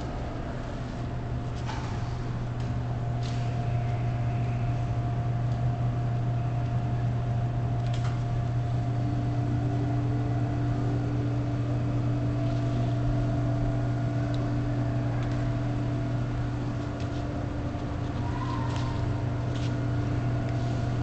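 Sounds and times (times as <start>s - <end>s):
vending machine humming: 0.0s - 21.0s.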